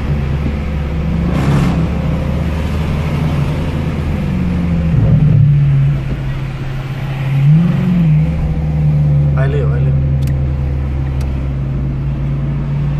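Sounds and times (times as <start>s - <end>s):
car engine hum from cabin: 0.0s - 12.9s.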